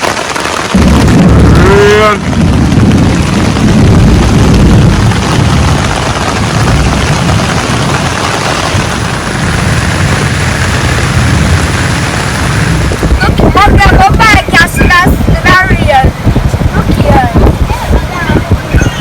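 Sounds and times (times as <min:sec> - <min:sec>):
heavy rain falling: 0:00.0 - 0:19.0
wind buffeting microphone: 0:00.0 - 0:19.0.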